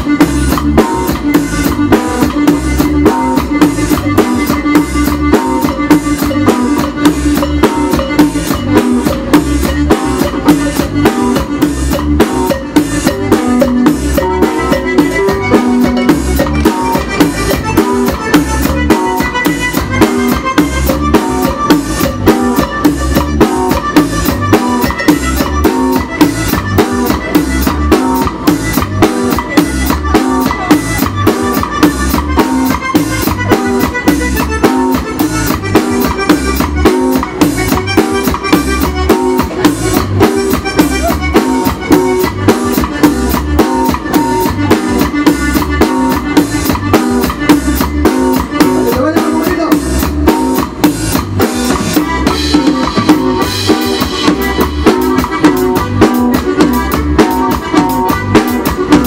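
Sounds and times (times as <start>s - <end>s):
button accordion: 0.0s - 59.0s
drum kit beat: 0.0s - 59.0s
guitar: 0.0s - 59.0s.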